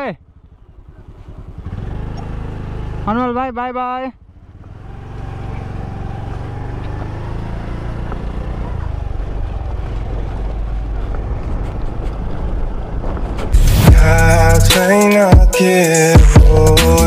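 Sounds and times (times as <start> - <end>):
scooter engine rumble: 0.0 - 3.4, 4.2 - 15.0.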